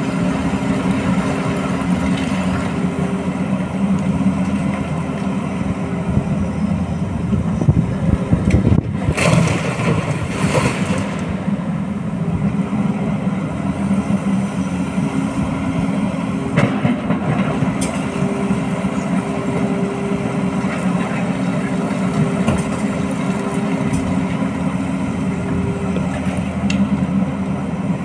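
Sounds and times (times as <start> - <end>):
excavator diesel engines running: 0.0 - 28.0.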